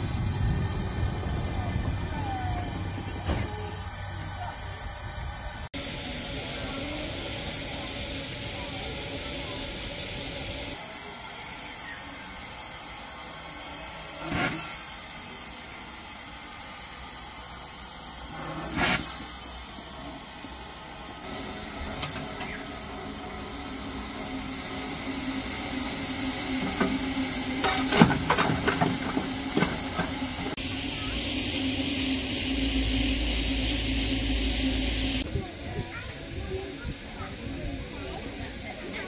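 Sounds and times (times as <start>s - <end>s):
steam blasts: 0.0s - 39.0s
steam locomotive hissing: 0.0s - 39.0s.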